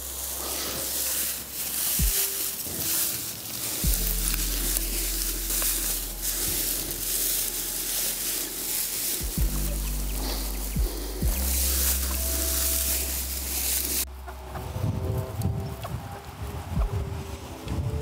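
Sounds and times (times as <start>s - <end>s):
dry grass rustling and crackling: 0.0s - 18.0s
low background music notes: 0.0s - 18.0s.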